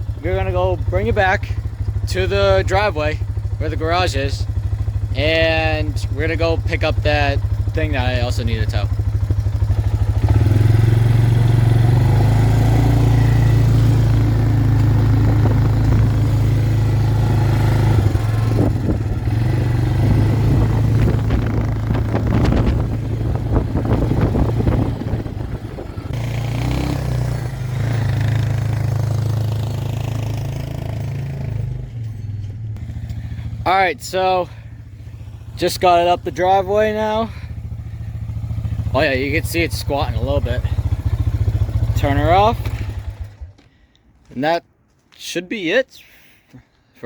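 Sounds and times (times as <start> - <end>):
four-wheeler engine running: 0.0 - 44.0.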